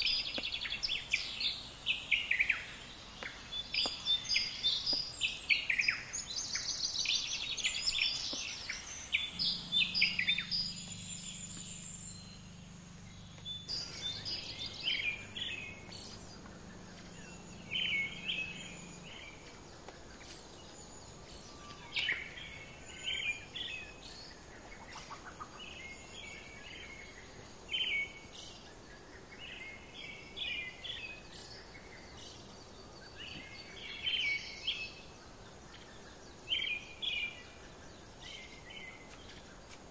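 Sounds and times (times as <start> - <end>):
low steady hum: 0.0 - 36.4
birds chirping: 0.0 - 39.9.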